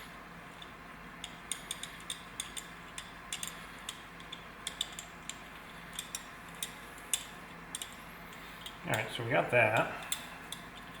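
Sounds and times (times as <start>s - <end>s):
small metal parts clicking: 0.5s - 9.1s, 9.7s - 11.0s.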